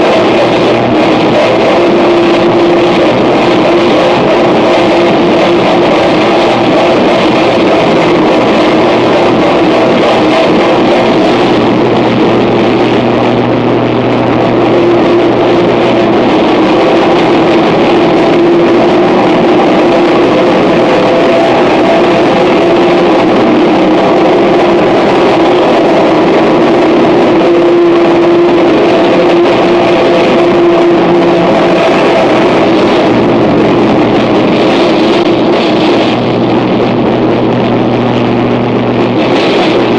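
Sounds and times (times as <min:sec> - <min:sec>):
droning tones: 0:00.0 - 0:39.9
harsh noise wall: 0:00.0 - 0:39.9
low hum: 0:00.0 - 0:39.9.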